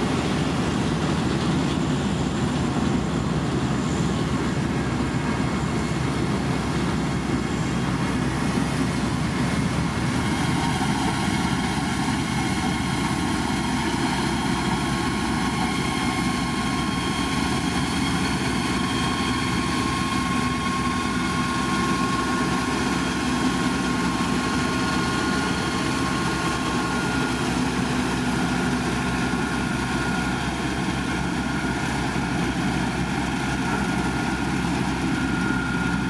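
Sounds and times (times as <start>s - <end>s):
diesel engine rumbling: 0.0s - 36.0s
steady whining tones: 0.1s - 36.0s.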